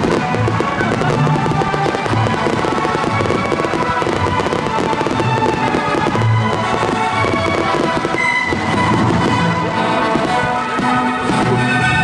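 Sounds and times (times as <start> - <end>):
fireworks bursting and crackling: 0.0 - 12.0
music playing: 0.0 - 12.0.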